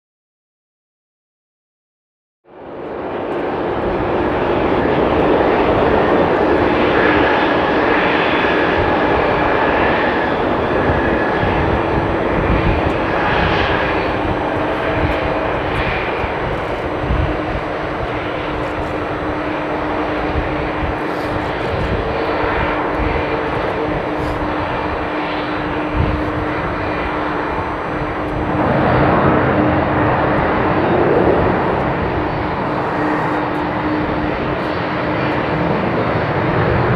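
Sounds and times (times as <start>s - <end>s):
jet engines running: 2.6s - 36.9s.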